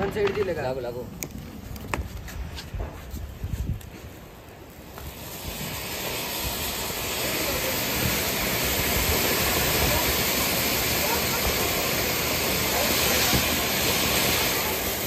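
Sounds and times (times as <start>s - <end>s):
firework fountains hissing: 0.0s - 15.0s.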